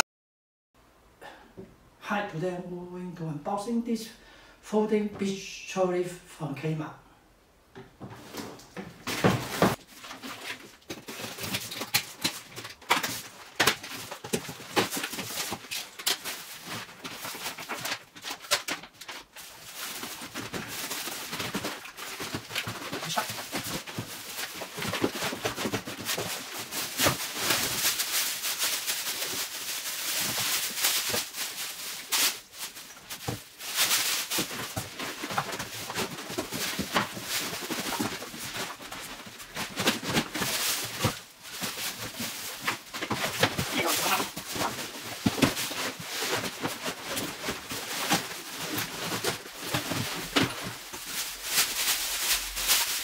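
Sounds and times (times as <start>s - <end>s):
cardboard flaps scraping: 8.0s - 53.0s
plastic wrapping rustling: 8.0s - 53.0s.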